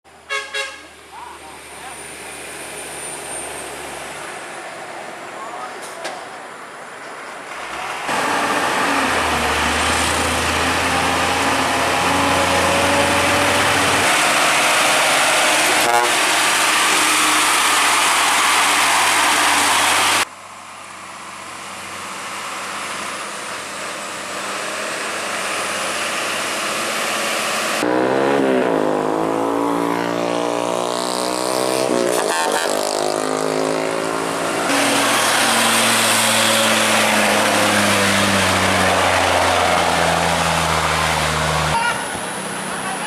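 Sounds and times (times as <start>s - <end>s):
diesel truck engines labouring: 0.9s - 43.0s.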